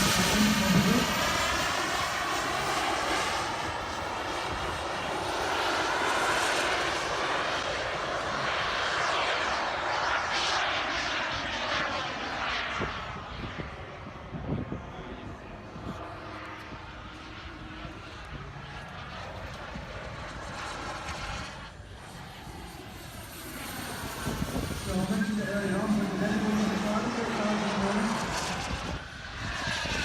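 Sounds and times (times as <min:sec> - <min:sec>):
model jet engine whine: 0:00.0 - 0:30.0.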